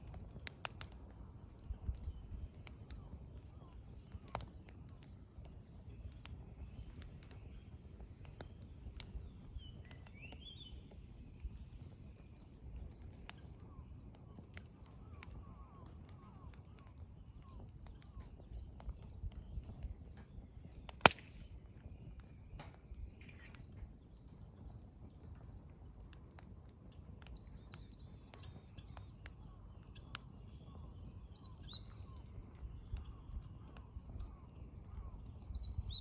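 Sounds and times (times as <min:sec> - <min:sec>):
fire snap: 0:00.0 - 0:36.0
wood fire crackling: 0:00.0 - 0:36.0
distant birds calling: 0:01.5 - 0:24.0, 0:27.2 - 0:36.0.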